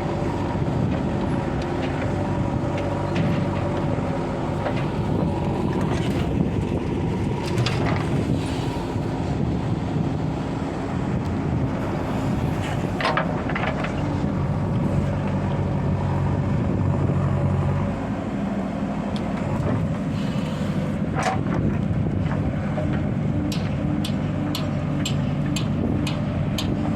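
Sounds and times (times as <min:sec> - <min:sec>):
diesel engines running: 0:00.0 - 0:26.9.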